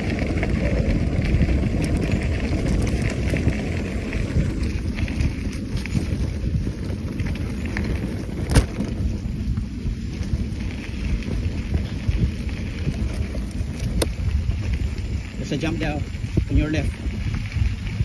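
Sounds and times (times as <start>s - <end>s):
bike rumbling over dirt trail: 0.0s - 18.0s
wind buffeting microphone: 0.0s - 18.0s.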